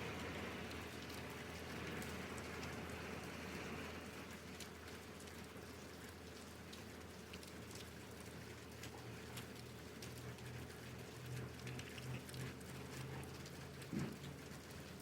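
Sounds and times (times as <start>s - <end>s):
rain hiss: 0.0s - 15.0s
sharp drip ticks: 0.2s - 15.0s.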